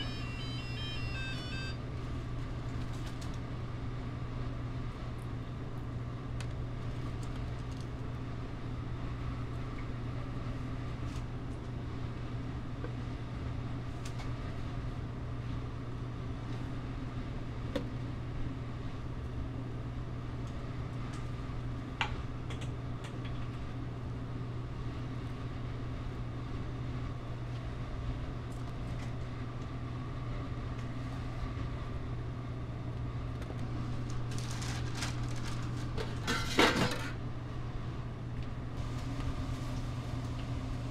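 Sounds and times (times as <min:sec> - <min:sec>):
low hum of kitchen ventilation: 0:00.0 - 0:40.9.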